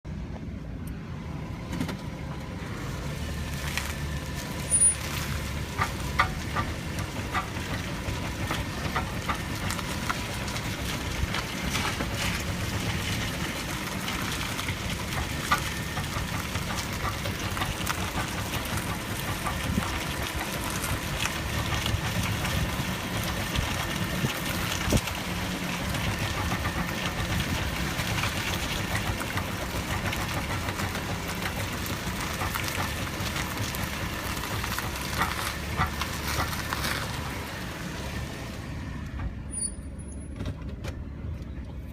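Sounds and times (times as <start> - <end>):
low engine rumble: 0.0 - 41.9.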